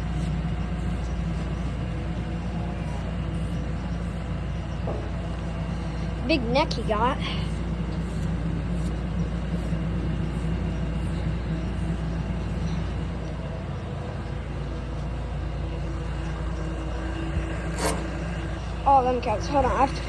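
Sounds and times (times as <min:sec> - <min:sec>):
farm machinery droning: 0:00.0 - 0:20.0.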